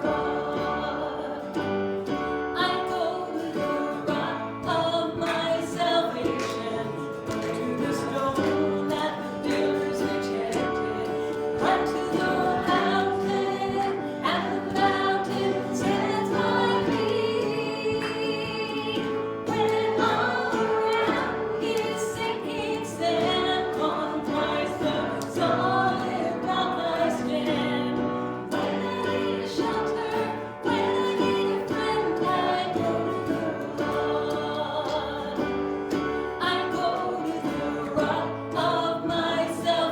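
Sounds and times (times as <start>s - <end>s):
acoustic guitar: 0.0s - 39.9s
voices singing gospel song: 0.0s - 39.9s.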